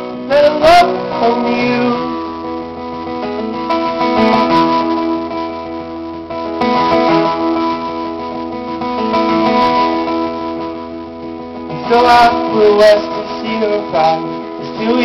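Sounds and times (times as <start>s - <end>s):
strummed acoustic guitar chords: 0.0s - 15.0s.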